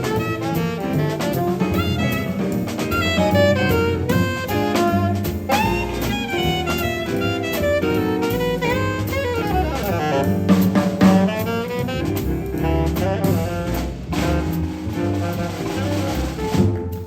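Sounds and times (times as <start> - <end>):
jazz band playing: 0.0 - 17.0
melodic horn line: 0.0 - 17.0.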